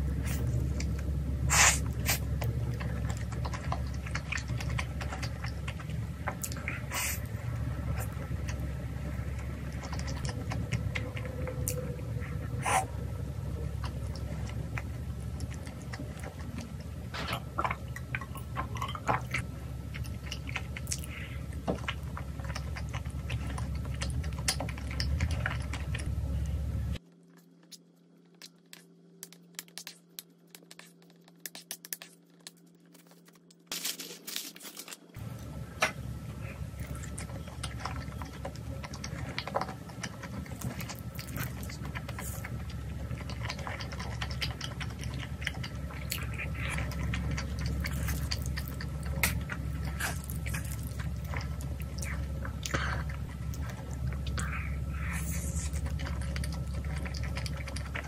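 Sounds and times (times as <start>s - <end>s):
close chewing: 0.0s - 33.7s, 35.2s - 58.0s.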